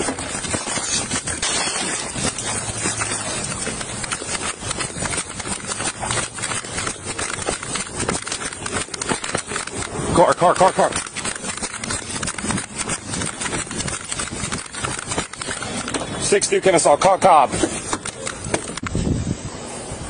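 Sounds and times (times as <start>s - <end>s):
wind noise on microphone: 0.0s - 10.2s, 11.0s - 16.2s, 17.5s - 20.0s
clothing rubbing on microphone: 0.0s - 16.3s
running footfalls and rattling gear: 0.0s - 16.4s.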